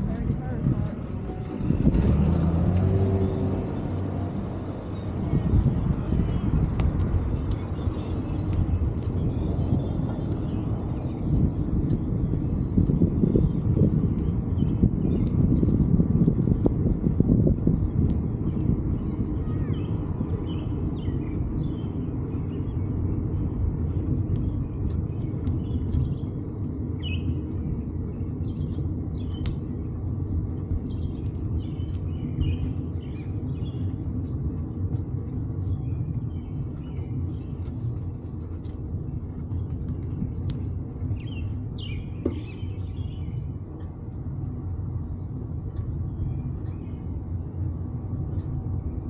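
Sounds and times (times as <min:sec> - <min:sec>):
birds chirping: 0:00.0 - 0:15.8, 0:18.4 - 0:43.9
wind buffeting microphone: 0:00.0 - 0:49.0.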